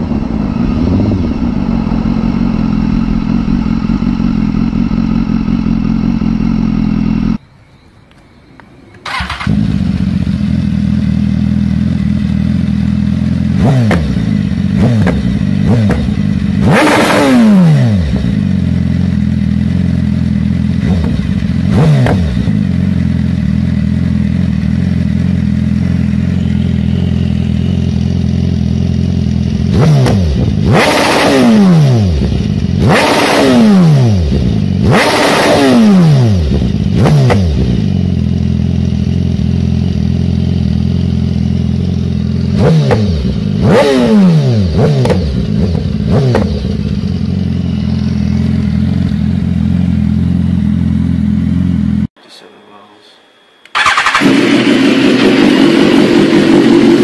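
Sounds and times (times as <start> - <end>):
motorcycle engine revving: 0.0 - 7.4, 9.0 - 52.2, 53.7 - 57.0.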